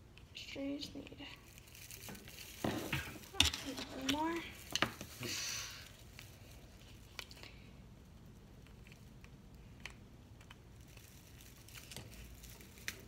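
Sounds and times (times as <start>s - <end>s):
tinsel tree rustling and clicking: 0.9s - 7.7s, 8.6s - 13.0s.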